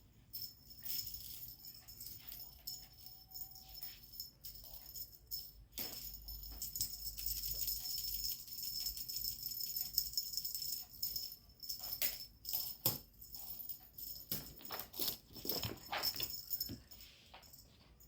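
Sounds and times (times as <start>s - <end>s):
jingling and rattling: 0.3s - 18.0s.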